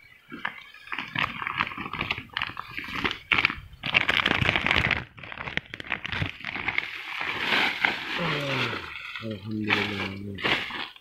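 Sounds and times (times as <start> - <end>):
plastic sack crinkling: 0.5 - 11.0.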